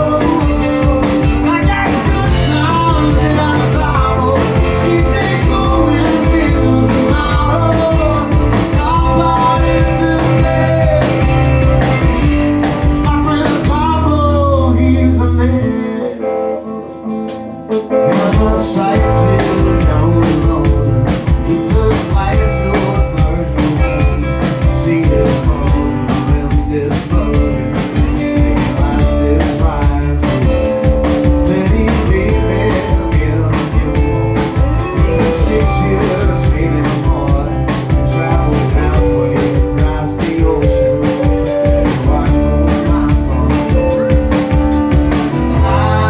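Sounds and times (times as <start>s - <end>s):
drum-kit beat: 0.0s - 14.3s, 17.3s - 46.0s
guitar: 0.0s - 46.0s.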